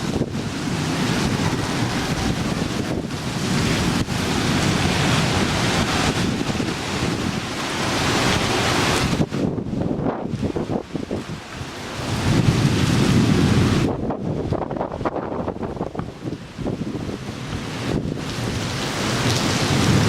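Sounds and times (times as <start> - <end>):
storm wind rushing: 0.0 - 20.0.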